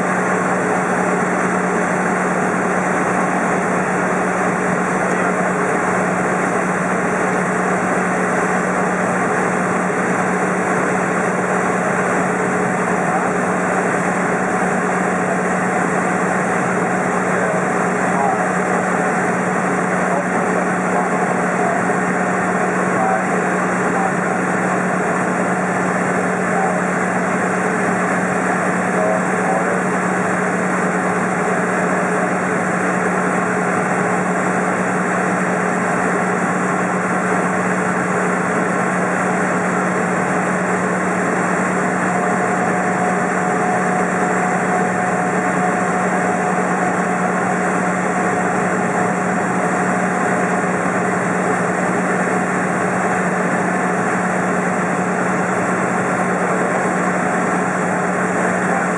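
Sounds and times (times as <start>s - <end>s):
plane engine and propeller: 0.0s - 58.9s.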